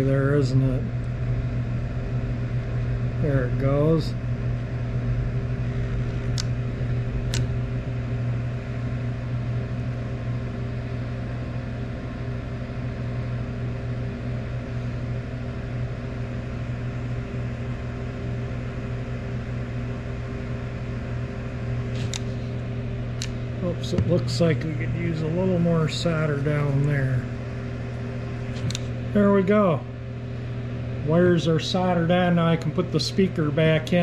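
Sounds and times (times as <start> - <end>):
soldering gun humming: 0.0 - 34.0.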